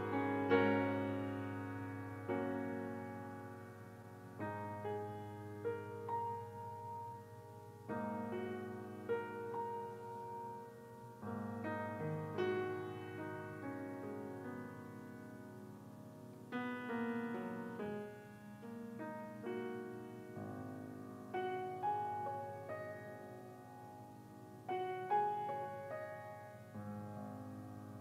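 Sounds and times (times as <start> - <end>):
slow soft piano music: 0.0 - 28.0.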